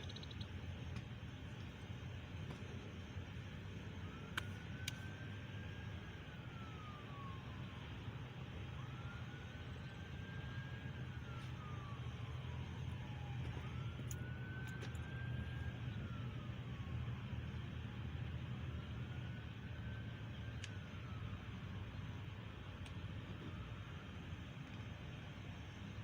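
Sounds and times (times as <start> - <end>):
distant siren wailing: 0.0 - 26.0
steady low hum: 0.0 - 26.0.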